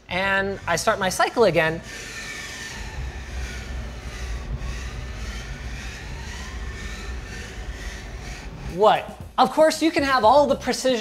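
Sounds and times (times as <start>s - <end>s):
cnc mill motor whine: 0.0s - 9.4s
low hum: 0.0s - 9.4s
sliding axis drive tones: 0.0s - 9.4s.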